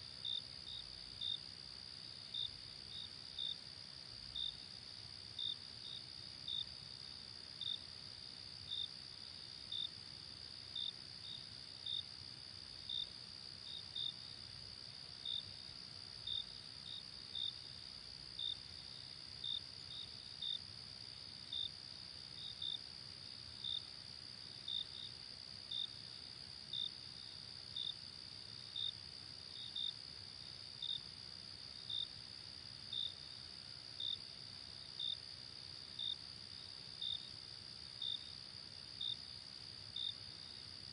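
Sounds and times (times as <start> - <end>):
insect chirp: 0.0 - 40.9.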